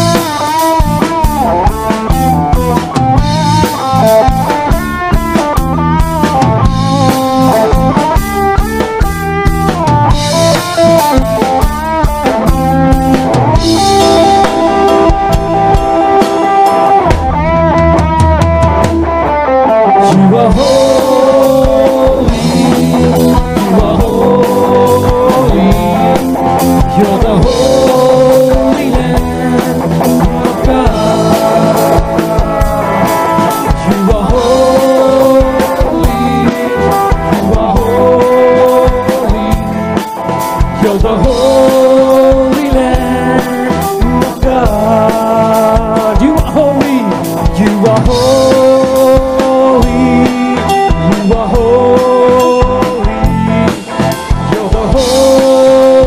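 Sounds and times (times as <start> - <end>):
bass guitar: 0.0 - 56.0
drum kit: 0.0 - 56.0
electric guitar bending notes: 0.0 - 56.0.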